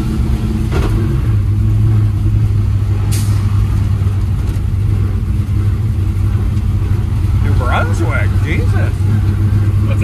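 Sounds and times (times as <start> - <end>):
car engine and exhaust droning: 0.0 - 10.0.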